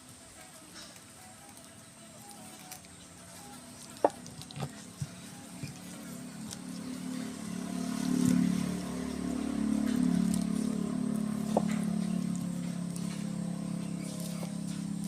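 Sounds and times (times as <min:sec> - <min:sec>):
low engine hum: 0:01.6 - 0:15.0.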